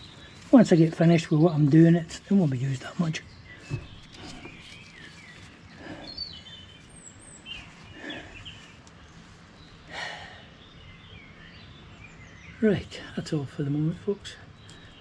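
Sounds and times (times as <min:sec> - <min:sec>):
wild birds chirping: 0:00.0 - 0:15.0.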